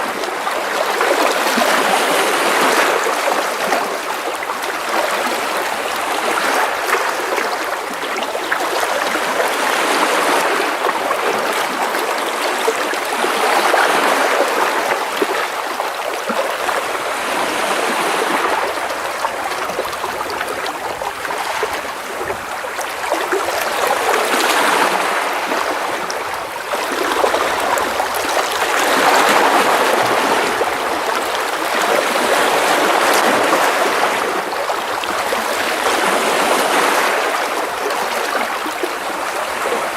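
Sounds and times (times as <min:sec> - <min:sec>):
waves splashing against rocks: 0:00.0 - 0:39.9.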